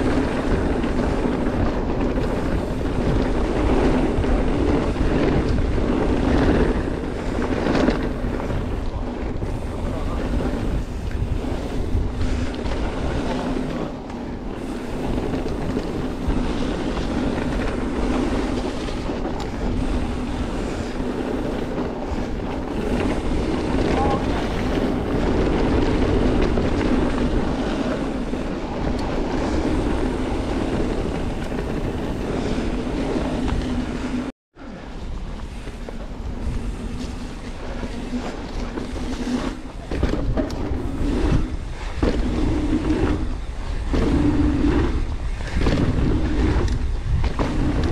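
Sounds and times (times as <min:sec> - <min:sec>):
bike tyres rolling on dirt: 0:00.0 - 0:47.9
wind buffeting a camera: 0:00.0 - 0:47.9.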